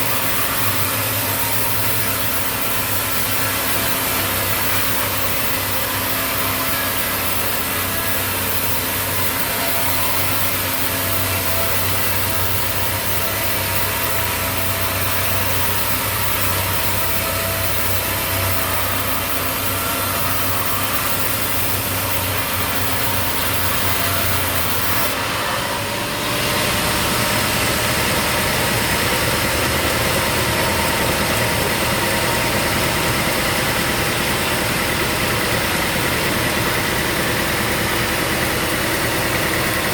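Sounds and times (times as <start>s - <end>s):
sawmill machinery engine running: 0.0s - 39.9s.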